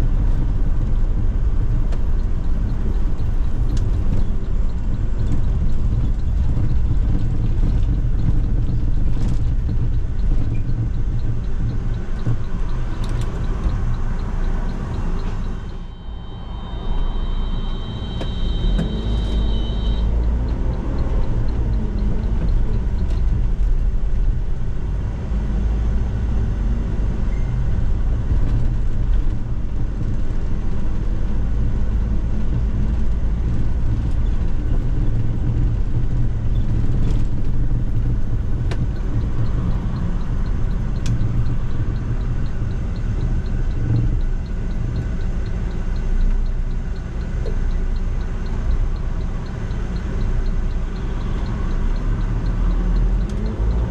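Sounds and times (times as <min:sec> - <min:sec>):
bus engine rumble: 0:00.0 - 0:53.9.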